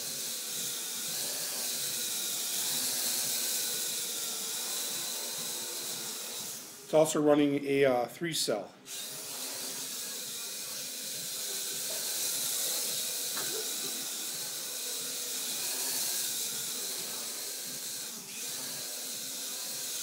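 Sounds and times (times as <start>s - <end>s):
quadcopter propellers whirring: 0.0s - 7.0s, 8.9s - 20.0s.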